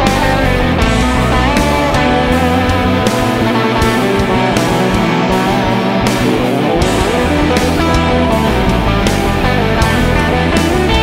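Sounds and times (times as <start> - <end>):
lead guitar: 0.0 - 11.0
rock song with full band: 0.0 - 11.0.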